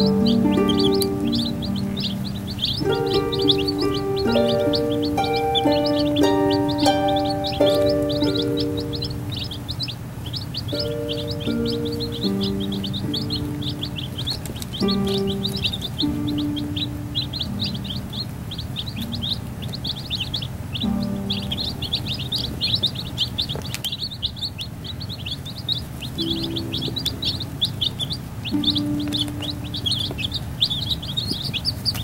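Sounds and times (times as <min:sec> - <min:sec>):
background music with held notes: 0:00.0 - 0:23.2, 0:26.1 - 0:30.9
baby chicks peeping: 0:00.0 - 0:32.0.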